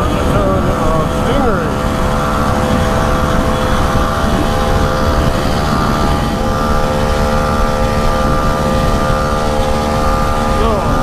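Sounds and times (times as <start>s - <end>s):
small engine running steadily: 0.0s - 11.0s
wind rumbling on microphone: 0.0s - 11.0s.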